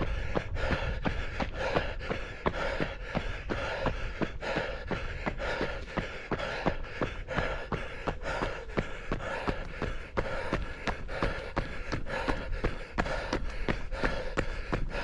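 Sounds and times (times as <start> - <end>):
runner breathing: 0.0 - 15.0
runner's footfalls: 0.0 - 15.0.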